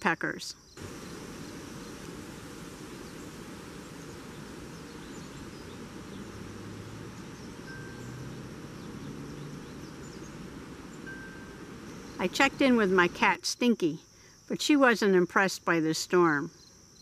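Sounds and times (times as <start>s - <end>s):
crickets trilling: 0.0s - 17.0s
wind in trees: 0.0s - 17.0s.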